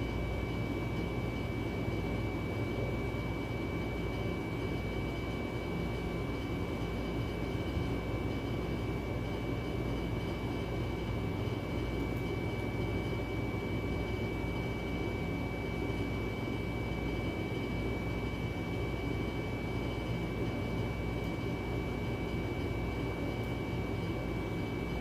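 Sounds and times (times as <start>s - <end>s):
mechanical hum and hiss: 0.0s - 25.0s.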